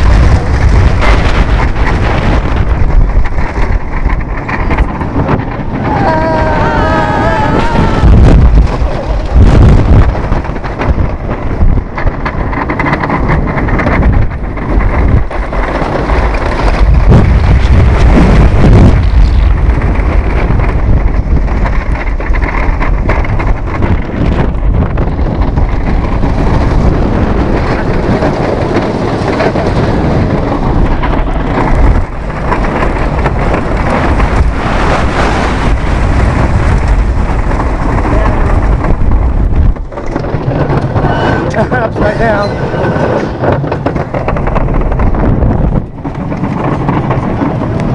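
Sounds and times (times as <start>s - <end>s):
roller coaster rumbling on track: 0.0s - 47.9s
wind buffeting microphone: 0.0s - 47.9s.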